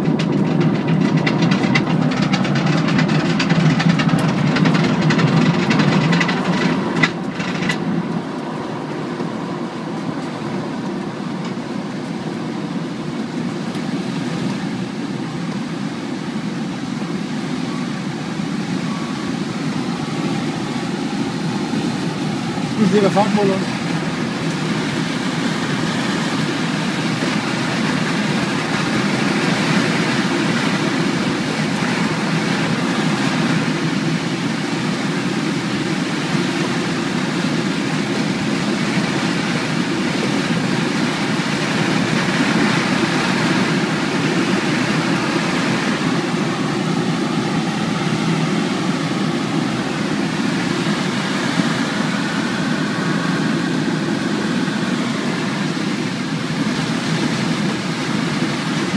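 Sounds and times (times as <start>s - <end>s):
air rushing in glider cockpit: 0.0s - 58.9s.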